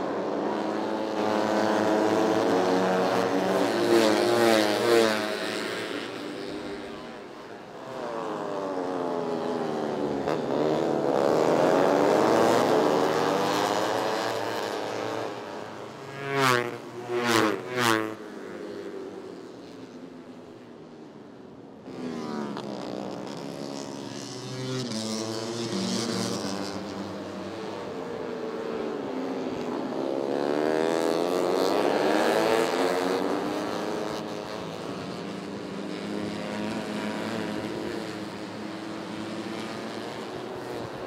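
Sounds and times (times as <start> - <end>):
race motorcycles engines revving: 0.0 - 19.5, 21.8 - 41.0.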